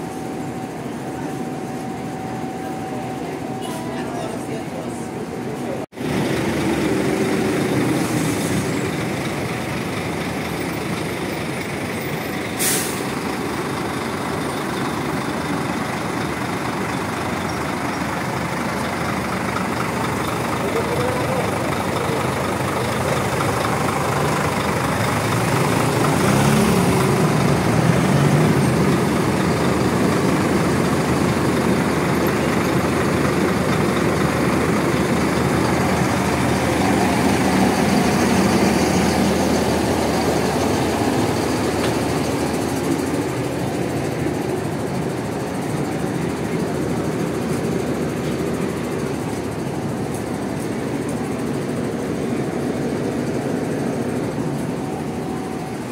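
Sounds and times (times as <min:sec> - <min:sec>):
diesel bus engines idling: 0:00.0 - 0:55.9
bus engine revving: 0:03.1 - 0:55.9.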